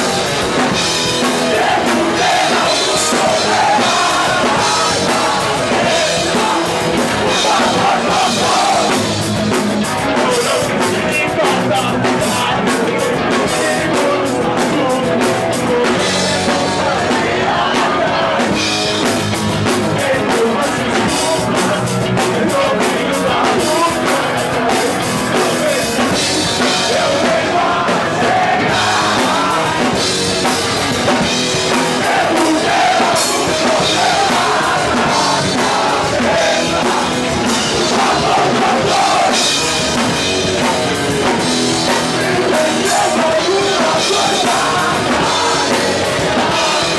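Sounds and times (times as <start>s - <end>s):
shouted singing: 0.0s - 9.2s, 10.1s - 46.9s
drum kit with cymbals: 0.0s - 46.9s
punk rock band playing: 0.0s - 46.9s.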